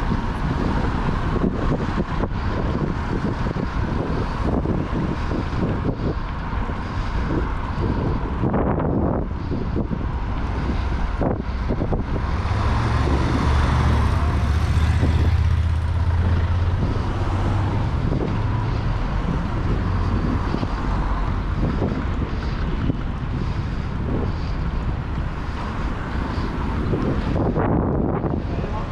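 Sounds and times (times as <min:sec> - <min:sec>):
low engine rumble: 0:00.0 - 0:28.9
street traffic: 0:00.0 - 0:28.9
wind rushing over microphone: 0:00.0 - 0:28.9.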